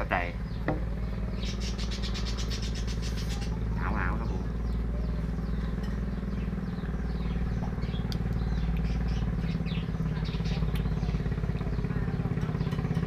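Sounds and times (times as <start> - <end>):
low mechanical hum: 0.0 - 13.0
small birds chirping: 0.0 - 13.0.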